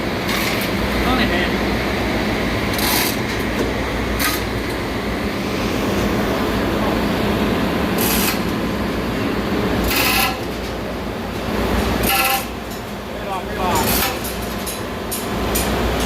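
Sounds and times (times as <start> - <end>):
engine-room machinery droning: 0.0 - 16.0.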